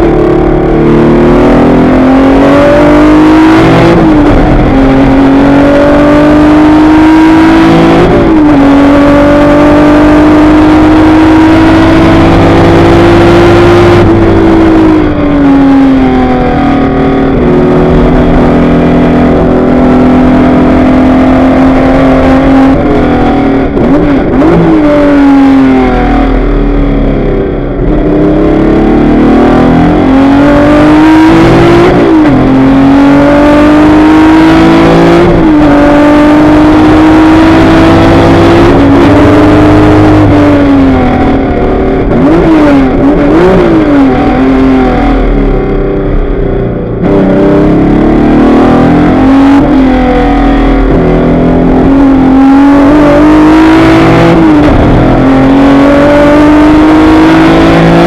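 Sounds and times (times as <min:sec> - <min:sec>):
race car engine with gear shifts: 0:00.0 - 0:58.0.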